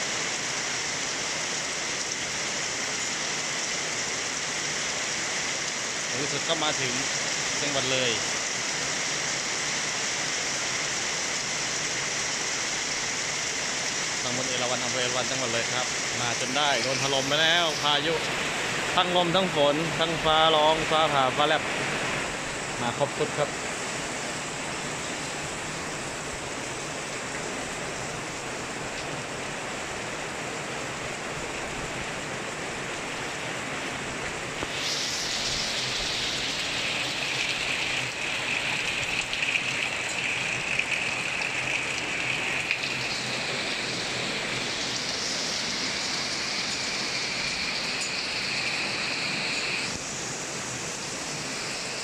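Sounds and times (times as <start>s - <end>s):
heavy rain pouring: 0.0s - 52.0s.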